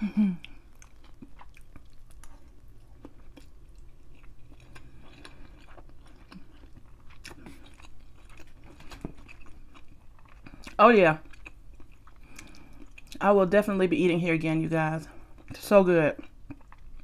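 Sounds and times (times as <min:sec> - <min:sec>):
person chewing noodles: 0:00.3 - 0:13.2, 0:15.2 - 0:15.6, 0:16.2 - 0:17.0.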